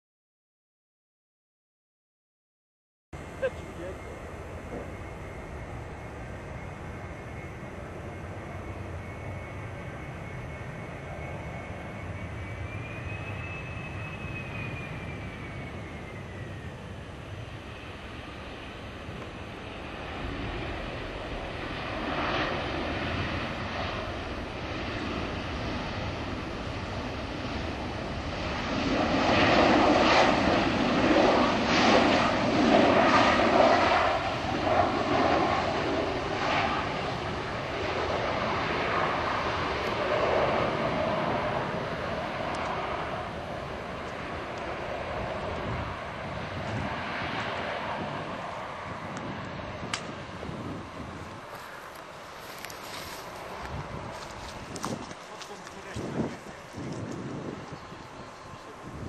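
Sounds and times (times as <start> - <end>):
jet engine whine: 3.2 - 59.0
rushing jet engine noise: 3.2 - 59.0.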